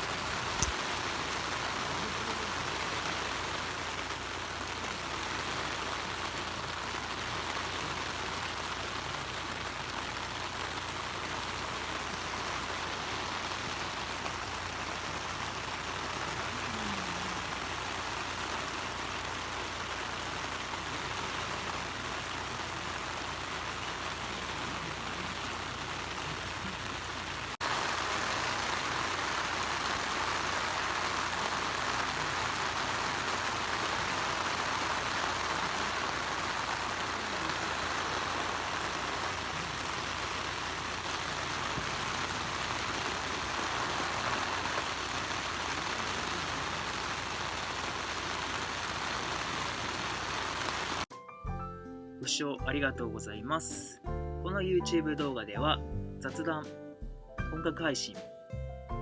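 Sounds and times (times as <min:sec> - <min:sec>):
rushing outdoor noise: 0:00.0 - 0:51.1.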